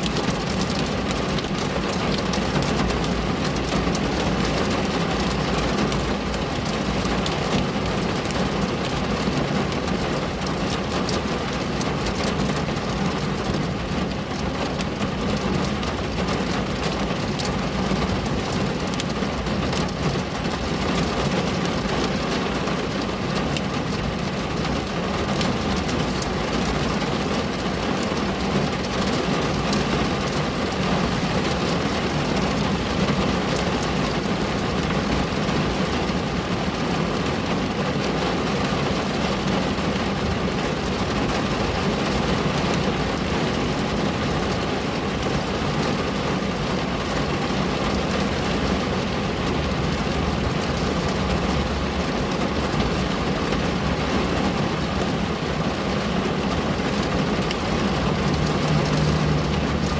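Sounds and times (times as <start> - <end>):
rain on a window pane: 0.0 - 59.9.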